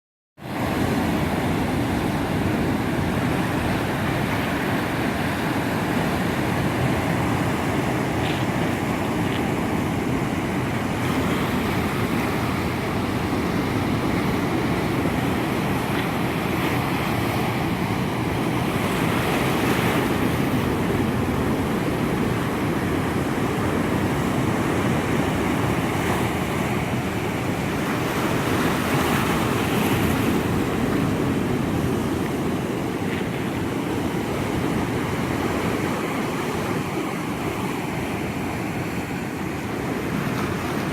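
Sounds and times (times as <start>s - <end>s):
waves breaking on shore: 0.4s - 40.9s.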